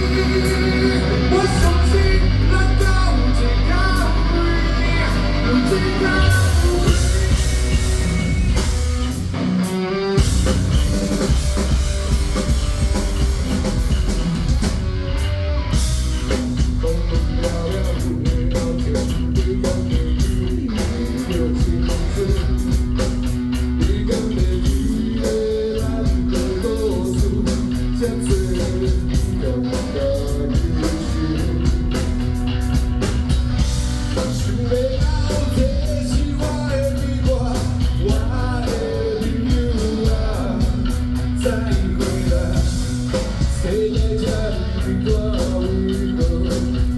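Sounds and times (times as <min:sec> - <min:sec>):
rock music with electric guitar: 0:00.0 - 0:46.9.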